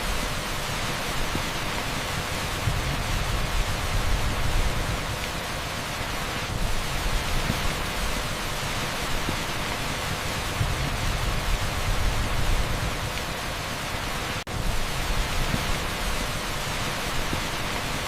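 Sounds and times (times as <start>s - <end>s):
torrential rain on asphalt: 0.0s - 18.0s.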